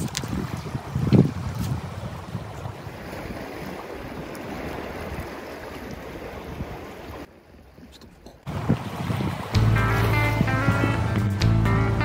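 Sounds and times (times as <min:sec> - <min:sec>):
sea washing against rocks: 0:00.0 - 0:07.3, 0:08.4 - 0:10.8
wind buffeting microphone: 0:00.0 - 0:07.3, 0:08.1 - 0:11.3.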